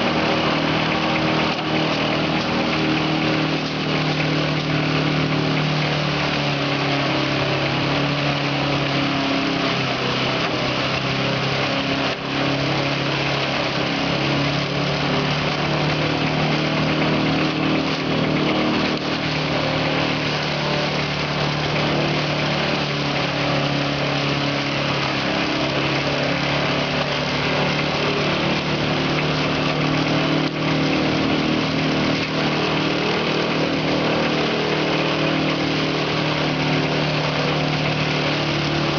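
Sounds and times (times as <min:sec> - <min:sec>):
crop shredder engine running: 0:00.0 - 0:38.9.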